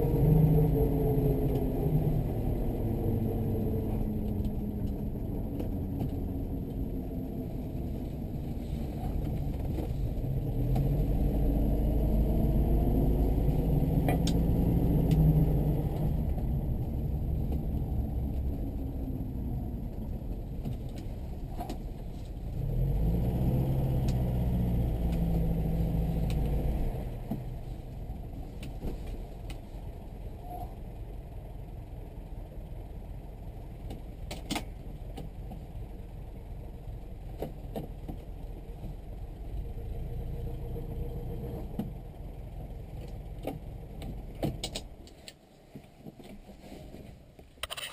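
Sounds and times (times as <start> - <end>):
car engine from inside cabin: 0.0 - 47.8.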